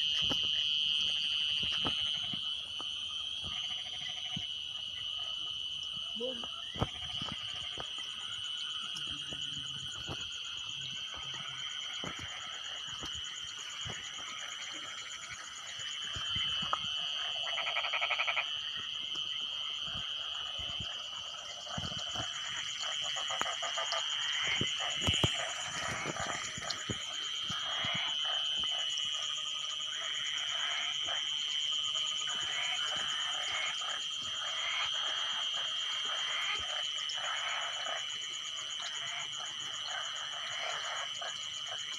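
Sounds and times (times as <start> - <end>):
frogs croaking: 0.0 - 41.9
insects droning: 0.0 - 41.9.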